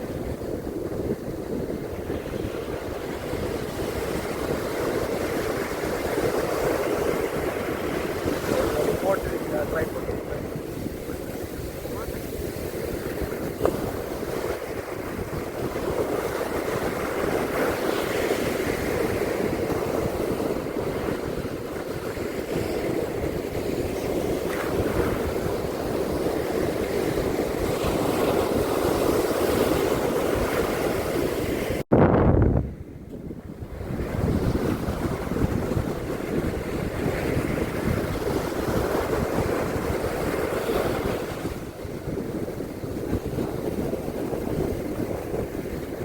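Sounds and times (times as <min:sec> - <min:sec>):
surf washing onto beach: 0:00.0 - 0:31.8, 0:32.6 - 0:46.0
wind rumbling on microphone: 0:00.0 - 0:46.0.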